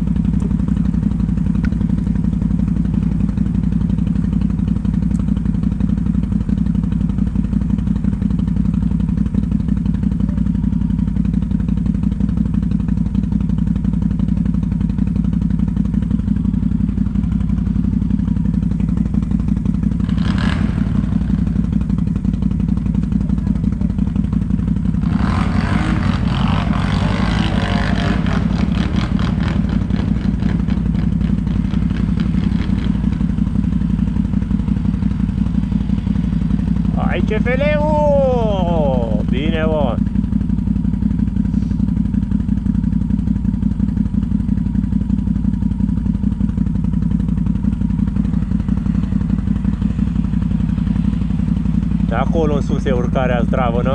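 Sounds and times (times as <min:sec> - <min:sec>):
atv engine running: 0:00.0 - 0:53.9.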